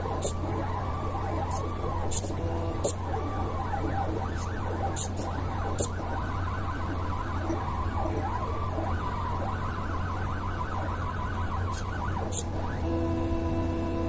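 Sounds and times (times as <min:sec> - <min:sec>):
steady low hum: 0:00.0 - 0:14.0
stepper motors whining: 0:00.0 - 0:14.0.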